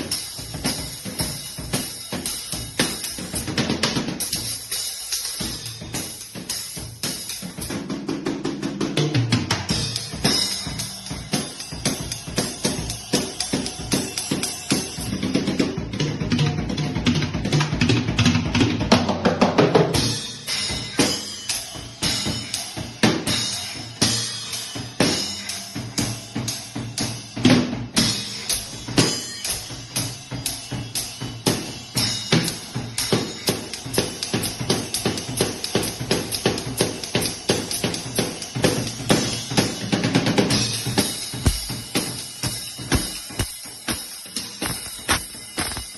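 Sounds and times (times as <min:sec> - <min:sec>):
drum kit groove: 0:00.0 - 0:45.9.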